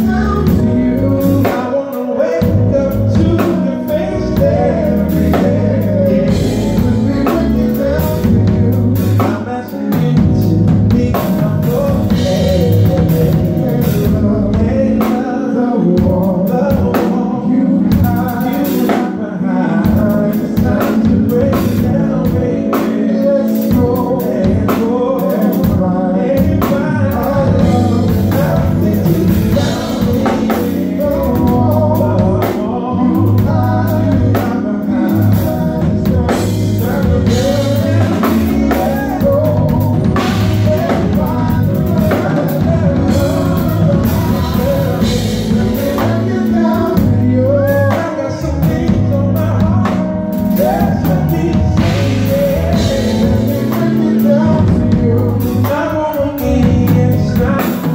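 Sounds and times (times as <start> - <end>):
live band playing: 0.0 - 57.9
men singing: 0.0 - 57.9.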